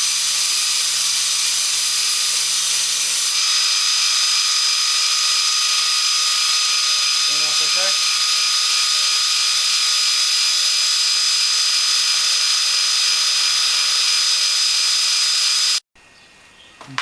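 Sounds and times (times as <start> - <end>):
belt grinder grinding metal: 0.0 - 15.8.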